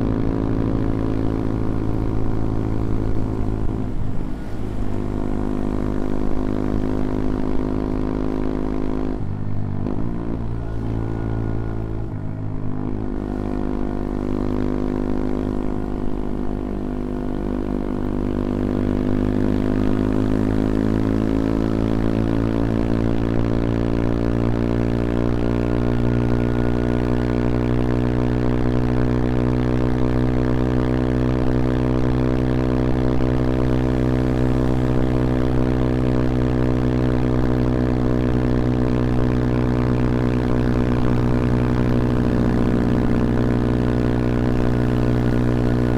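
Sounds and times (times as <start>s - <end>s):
small motorcycle engine running: 0.0s - 45.9s.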